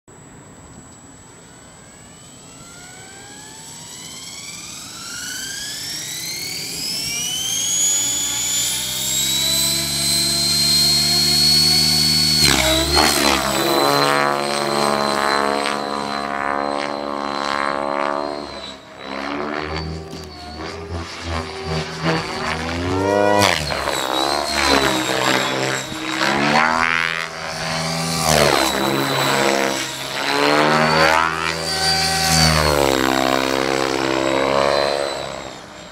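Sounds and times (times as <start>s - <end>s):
rc helicopter whine: 0.1s - 35.9s
wavering rotor sound: 1.1s - 35.9s.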